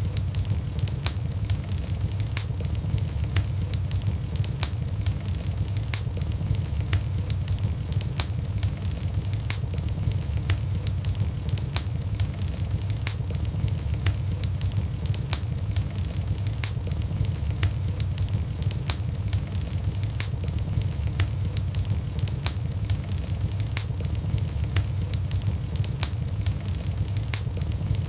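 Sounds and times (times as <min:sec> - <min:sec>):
fireplace wood crackling: 0:00.0 - 0:28.0
low rumble of flames: 0:00.0 - 0:28.0.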